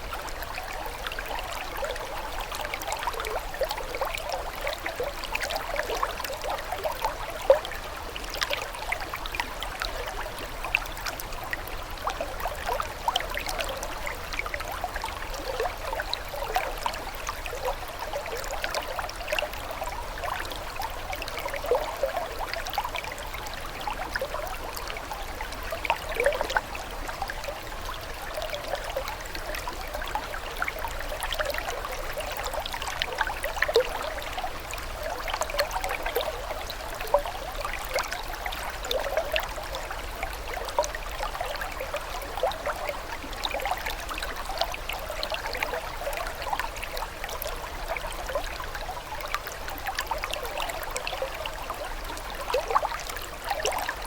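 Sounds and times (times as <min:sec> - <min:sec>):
water trickling and burbling: 0:00.0 - 0:54.0.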